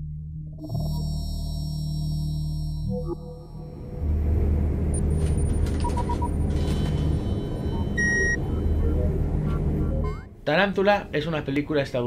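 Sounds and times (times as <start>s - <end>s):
low spaceship rumble: 0.0s - 10.4s.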